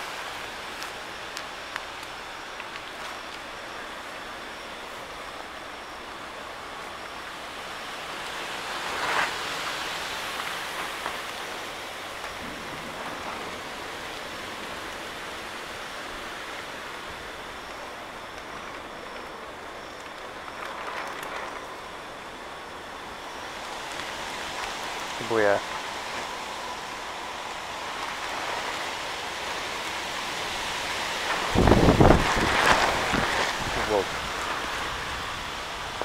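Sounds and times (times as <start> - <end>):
rain falling steadily: 0.0 - 36.0.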